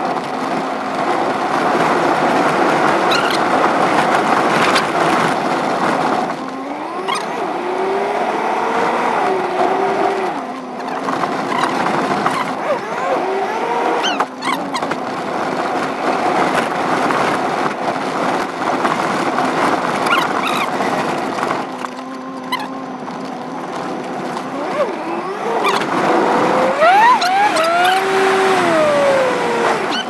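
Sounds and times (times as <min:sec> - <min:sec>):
sped-up car engine: 0:00.0 - 0:30.0.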